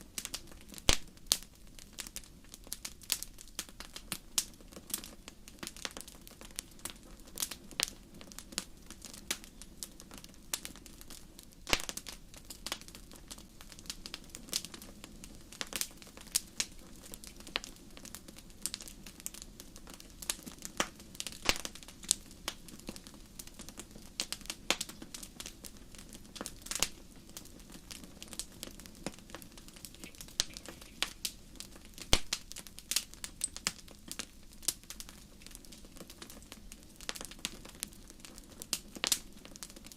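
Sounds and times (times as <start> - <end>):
low hiss of burning: 0.0 - 39.9
wood fire crackling and popping: 0.0 - 39.9.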